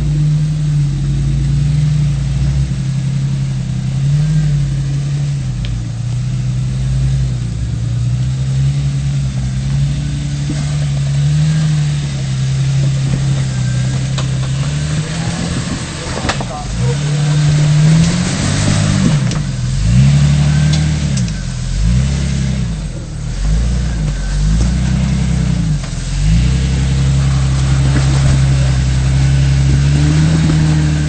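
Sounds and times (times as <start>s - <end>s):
off-road vehicle engine low revs: 0.0s - 31.0s.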